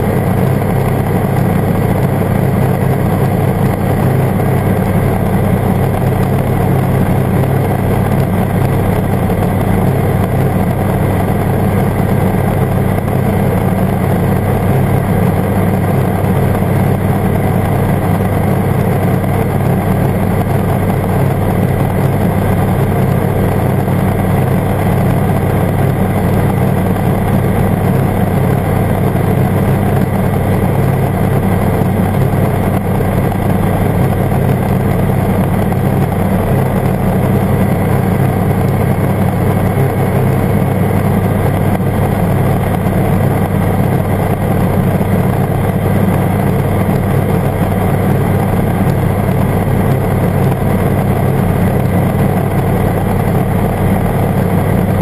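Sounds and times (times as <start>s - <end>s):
aircraft engine droning: 0.0s - 55.0s.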